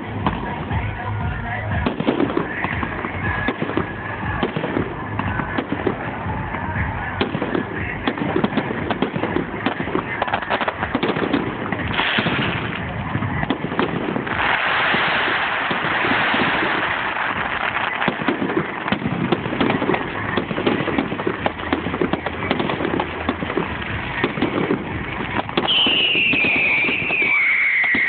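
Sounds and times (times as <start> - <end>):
fireworks bangs and crackles: 0.0 - 28.0
loud crackling hiss: 0.0 - 28.0.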